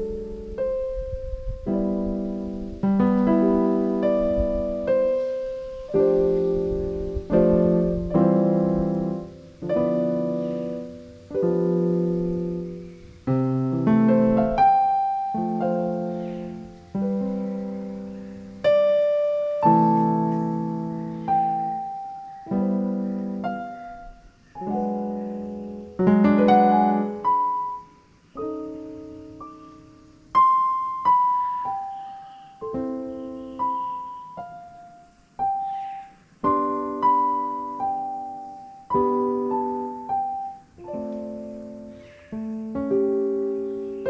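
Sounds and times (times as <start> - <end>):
slow solo piano music: 0.0 - 44.0.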